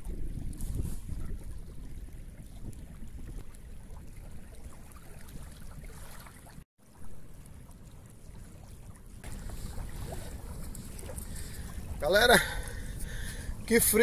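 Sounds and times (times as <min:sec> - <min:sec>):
small waves lapping: 0:00.0 - 0:14.0
wind rumbling on microphone: 0:00.0 - 0:14.0.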